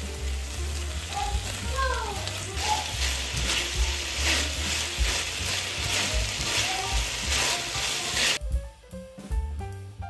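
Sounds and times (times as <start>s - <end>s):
food sizzling in frying pan: 0.0s - 8.4s.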